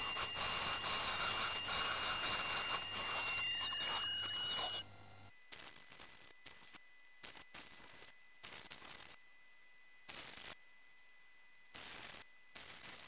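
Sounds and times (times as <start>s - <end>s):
ultrasonic dental scaler whine: 0.0s - 13.0s.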